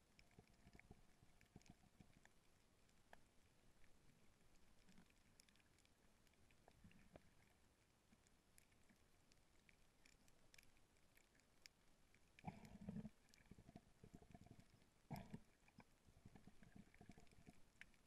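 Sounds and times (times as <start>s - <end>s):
faint clicks: 0.0s - 18.0s
faint underwater noise: 0.0s - 18.0s.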